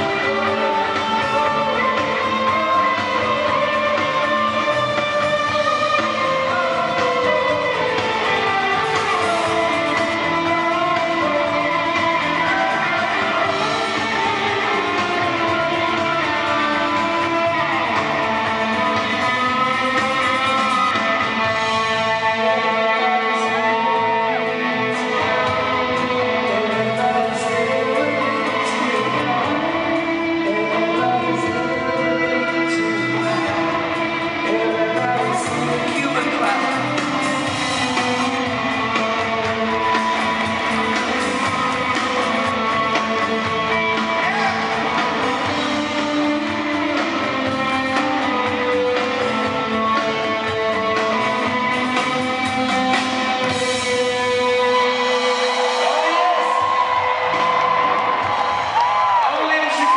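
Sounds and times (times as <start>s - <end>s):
man singing into a microphone: 0.0s - 55.3s
electric guitar: 0.0s - 59.9s.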